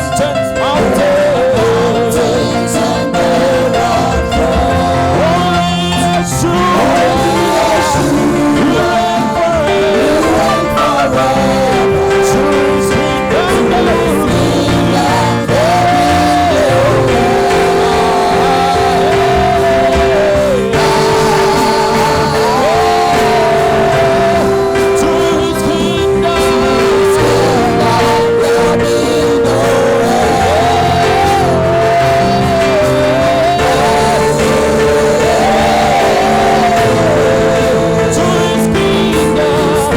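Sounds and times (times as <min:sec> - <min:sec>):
music with singing voice: 0:00.0 - 0:39.9.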